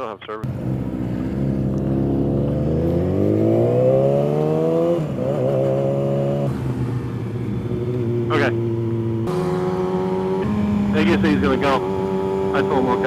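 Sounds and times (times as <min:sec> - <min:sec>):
motorcycle engine accelerating: 0:00.4 - 0:13.0.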